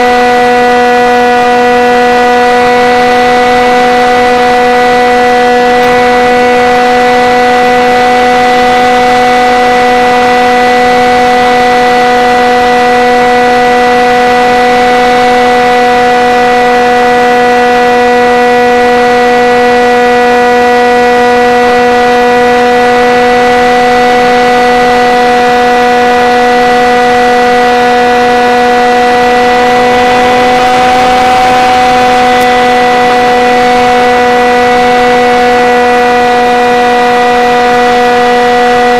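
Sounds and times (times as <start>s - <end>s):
model airplane motor drone: 0.0s - 38.9s.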